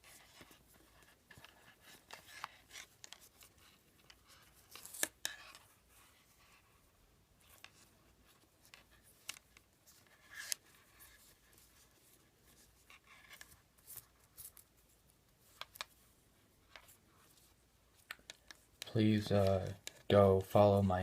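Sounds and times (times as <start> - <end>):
cord rustling and scraping: 0.0 - 20.1.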